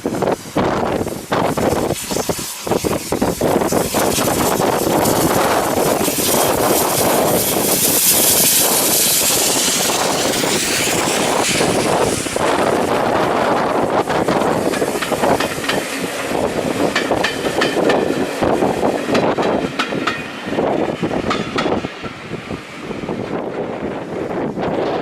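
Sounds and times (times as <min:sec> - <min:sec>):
steam locomotive passing: 0:00.0 - 0:25.0
swirling steam hiss: 0:00.0 - 0:25.0.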